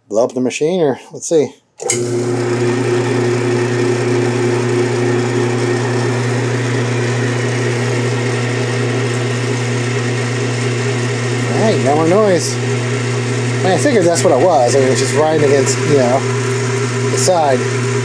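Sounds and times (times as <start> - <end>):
lathe motor and belts running: 1.8 - 18.0.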